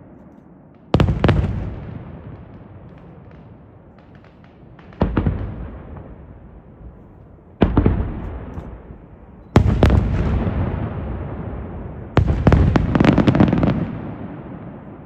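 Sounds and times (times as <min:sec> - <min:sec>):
rolling echo: 0:00.0 - 0:15.0
firework shells booming: 0:00.7 - 0:06.4, 0:07.6 - 0:15.0.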